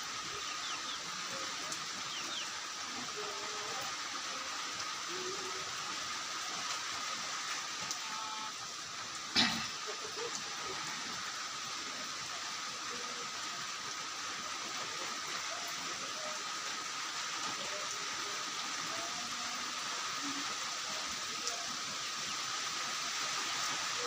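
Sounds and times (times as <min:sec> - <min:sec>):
steady rain hissing: 0:00.0 - 0:24.0.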